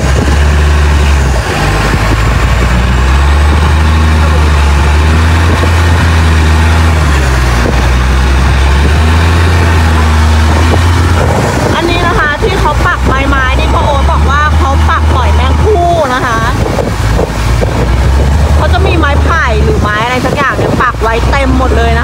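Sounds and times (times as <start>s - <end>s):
motorboat engine humming: 0.0s - 22.0s
water splashing along hull: 0.0s - 22.0s.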